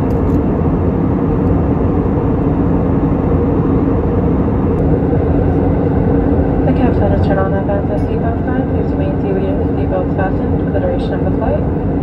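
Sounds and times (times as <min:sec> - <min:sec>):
airflow and engine drone: 0:00.0 - 0:12.0
faint steady hum: 0:00.0 - 0:12.0.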